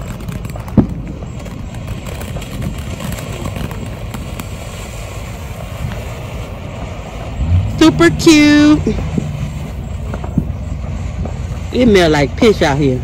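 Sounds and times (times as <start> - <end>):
firework spraying sparks: 0.0 - 13.0
low rumble: 0.0 - 13.0.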